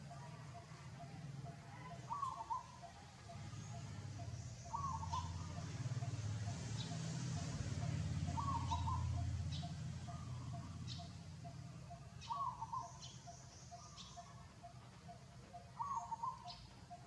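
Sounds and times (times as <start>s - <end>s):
wavering animal calls: 0.0s - 17.0s.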